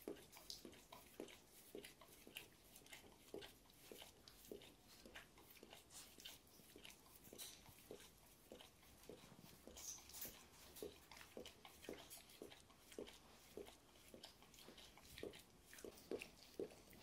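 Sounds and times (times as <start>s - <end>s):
dog mouth clicks and chewing: 0.0s - 17.0s.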